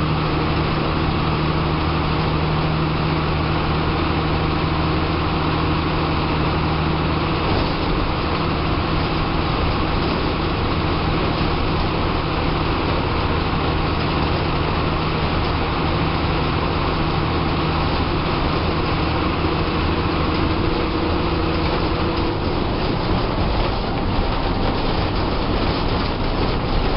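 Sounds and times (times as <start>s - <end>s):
bus diesel engine hum: 0.0s - 26.9s
road and cabin noise: 0.0s - 26.9s.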